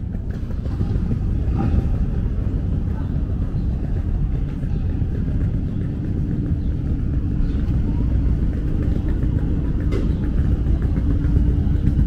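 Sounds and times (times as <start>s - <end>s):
faint voices of passers-by: 0.0s - 12.0s
low rumble of traffic: 0.0s - 12.0s.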